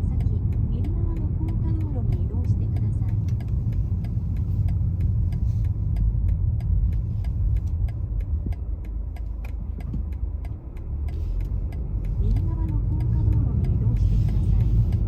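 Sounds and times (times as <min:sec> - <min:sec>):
diesel car engine rumble: 0:00.0 - 0:15.0
light regular ticking: 0:00.0 - 0:15.0
road noise: 0:00.0 - 0:15.0.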